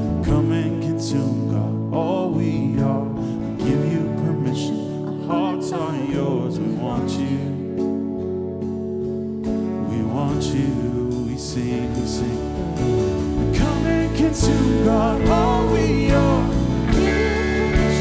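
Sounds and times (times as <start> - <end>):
person singing: 0.0 - 8.1, 9.9 - 18.0
band playing slow worship song: 0.0 - 18.0.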